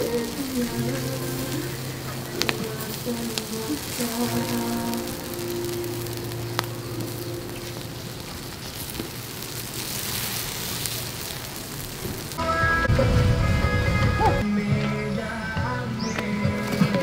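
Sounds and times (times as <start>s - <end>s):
fat sizzling: 0.0s - 14.4s
wood embers crackling: 0.0s - 14.4s.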